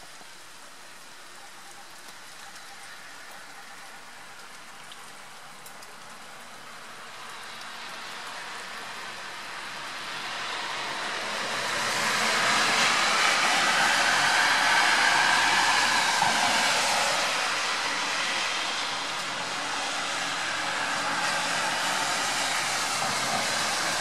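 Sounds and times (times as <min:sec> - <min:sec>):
rain falling: 0:00.0 - 0:24.0
tyres hissing on wet road: 0:00.0 - 0:24.0.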